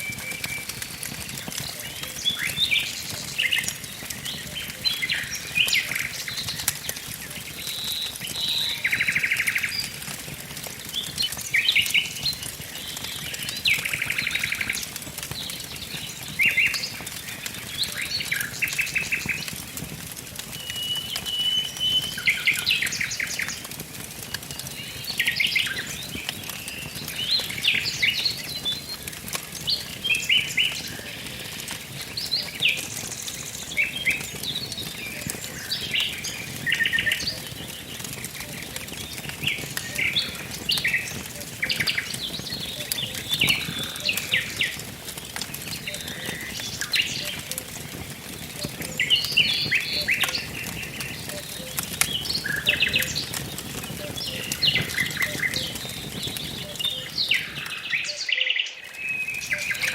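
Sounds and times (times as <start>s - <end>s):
songbirds chirping and trilling: 0.0s - 19.7s, 20.5s - 59.9s
wood fire crackling: 0.0s - 59.9s.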